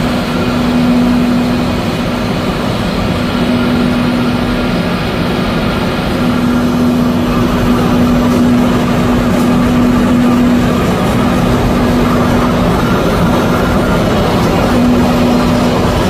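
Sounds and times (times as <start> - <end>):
constant low hum: 0.0 - 16.0
printing press machine din: 0.0 - 16.0.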